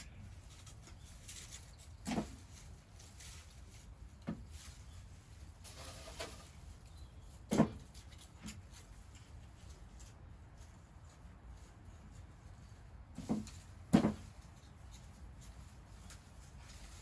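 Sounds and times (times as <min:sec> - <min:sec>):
rustle: 0:00.0 - 0:17.0.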